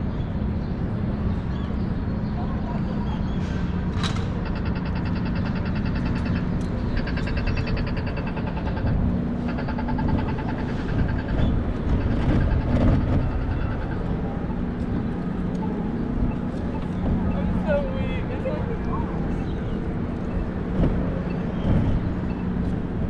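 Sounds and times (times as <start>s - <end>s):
street traffic rumble: 0.0s - 23.0s
wind: 0.0s - 23.0s.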